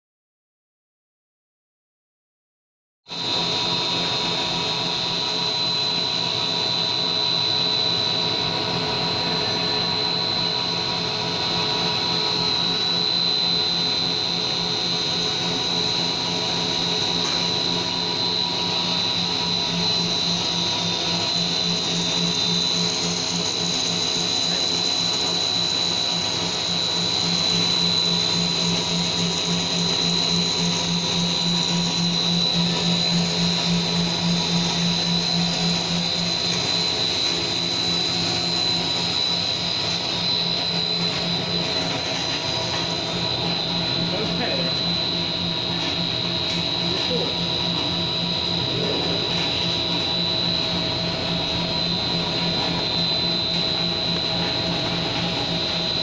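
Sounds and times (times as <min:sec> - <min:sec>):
factory machinery running: 0:03.1 - 0:56.0
high-pitched machine whine: 0:03.1 - 0:56.0.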